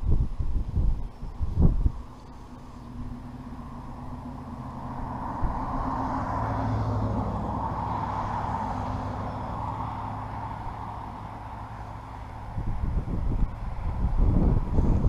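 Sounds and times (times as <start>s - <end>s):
motor vehicle passing: 1.1s - 15.0s.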